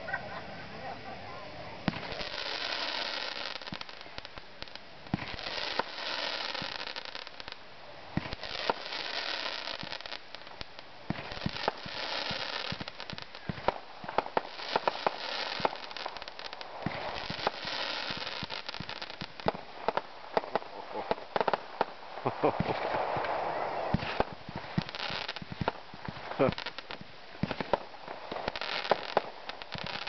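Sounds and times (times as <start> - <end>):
fireworks hissing: 1.5 - 30.0
fireworks bangs: 1.6 - 30.0
crackling pops: 1.8 - 30.0.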